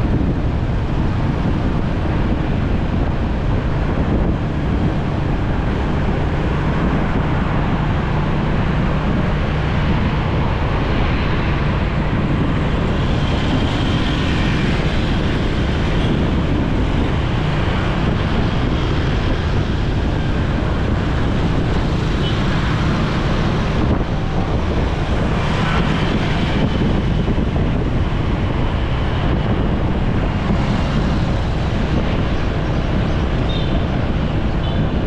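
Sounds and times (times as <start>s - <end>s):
motorcycle engine drone: 0.0s - 35.0s
wind rushing over microphone: 0.0s - 35.0s.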